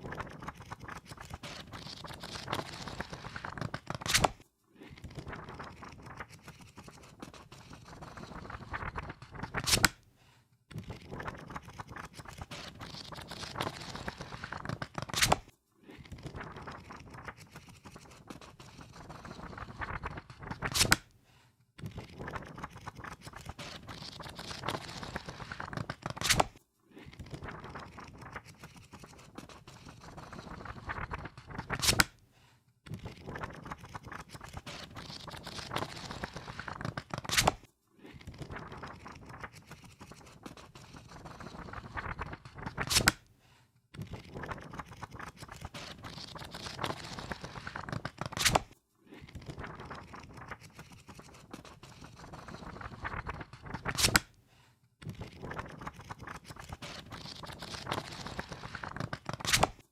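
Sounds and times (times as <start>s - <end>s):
book pages flipping: 0.0s - 10.1s, 10.7s - 21.1s, 21.8s - 32.2s, 32.9s - 43.3s, 44.0s - 54.4s, 55.0s - 59.9s
pages slapping shut: 0.3s - 4.4s, 5.1s - 10.0s, 11.1s - 15.5s, 16.8s - 21.1s, 22.4s - 26.6s, 27.9s - 32.2s, 33.7s - 37.7s, 38.4s - 43.2s, 44.5s - 48.8s, 49.5s - 54.3s, 55.7s - 59.9s.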